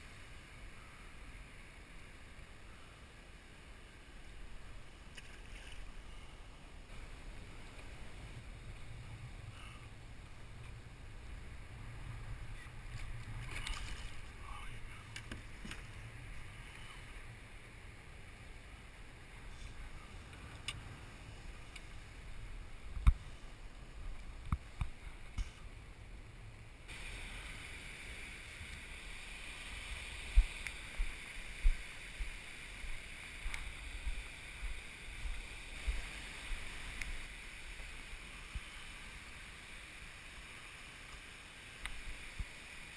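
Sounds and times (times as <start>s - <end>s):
steady bright hiss: 0.0s - 42.9s
wind rumble on microphone: 3.8s - 40.8s.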